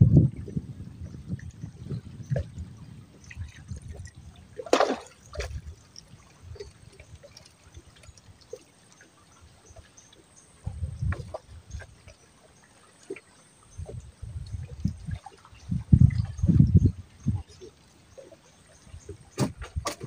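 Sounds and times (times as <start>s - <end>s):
water splashes and drips: 0.0s - 20.0s.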